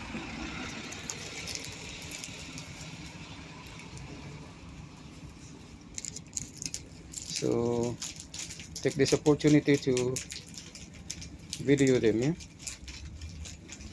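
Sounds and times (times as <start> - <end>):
road traffic hum: 0.0 - 13.9.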